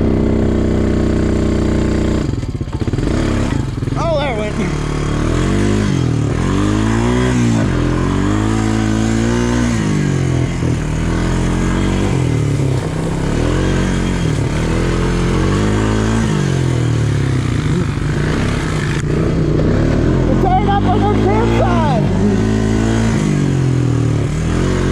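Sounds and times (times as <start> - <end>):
atv engine revving: 0.0 - 24.9.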